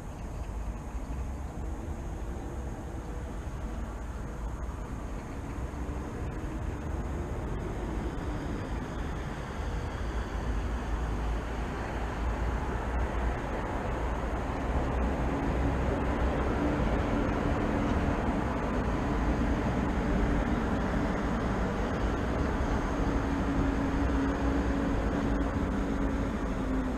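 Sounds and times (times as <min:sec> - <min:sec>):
approaching vehicle hum: 0:00.0 - 0:26.9
city traffic rumble: 0:00.0 - 0:26.9.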